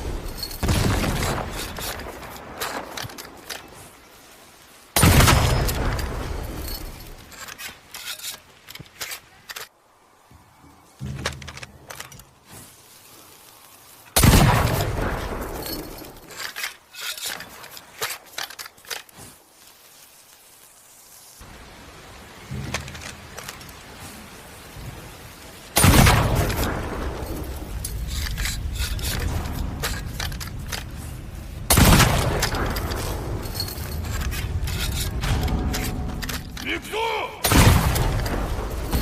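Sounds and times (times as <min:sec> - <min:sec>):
sharp clicks and crackles: 0:00.2 - 0:09.8, 0:11.0 - 0:21.4, 0:22.5 - 0:36.8.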